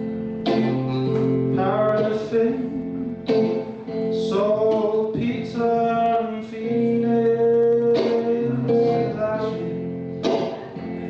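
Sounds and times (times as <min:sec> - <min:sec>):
acoustic guitar strums: 0:00.0 - 0:11.0
person singing slow song: 0:00.0 - 0:11.0.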